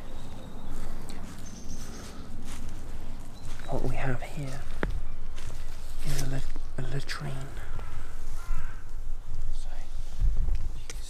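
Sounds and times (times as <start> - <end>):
footsteps on woodland path: 0.0 - 10.8.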